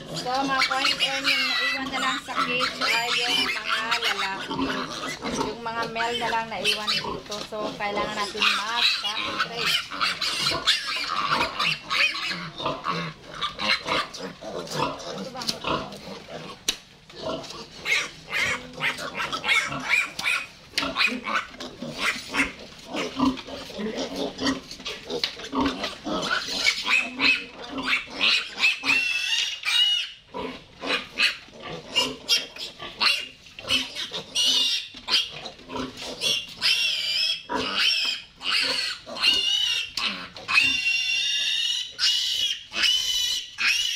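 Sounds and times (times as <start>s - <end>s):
piglet squealing: 0.0s - 7.2s, 8.0s - 15.6s, 17.8s - 23.4s, 25.6s - 30.2s, 30.9s - 35.5s, 36.1s - 43.9s.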